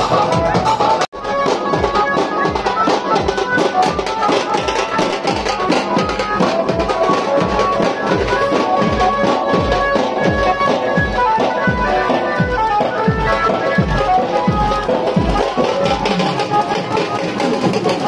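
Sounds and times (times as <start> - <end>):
barrel drums beating fast rhythm: 0.0 - 18.0
high held melody: 0.0 - 18.0.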